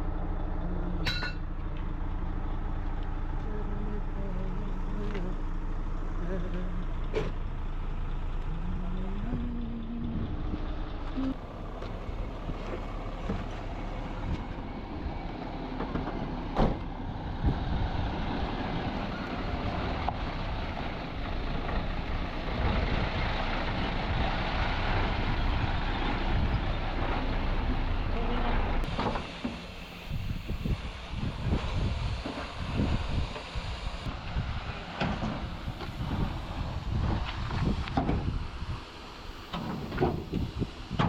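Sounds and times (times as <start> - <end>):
heavy vehicle engine running: 0.0 - 41.0.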